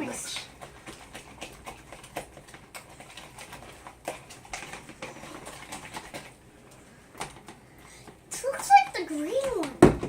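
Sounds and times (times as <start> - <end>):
slime stirred in a bowl: 0.0 - 9.7.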